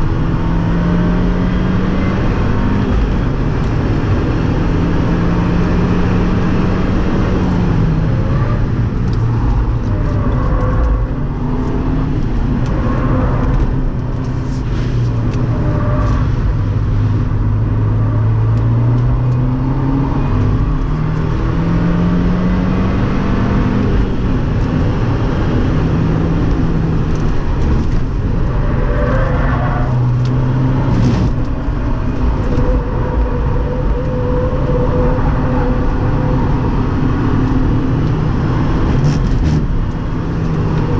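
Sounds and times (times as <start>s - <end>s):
road and wind noise: 0.0s - 40.9s.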